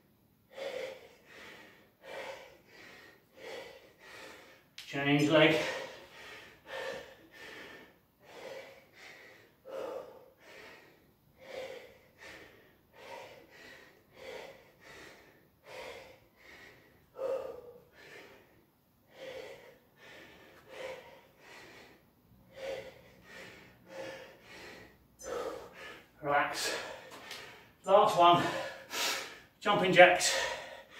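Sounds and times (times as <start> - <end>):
man breathing hard: 0.5 - 30.9.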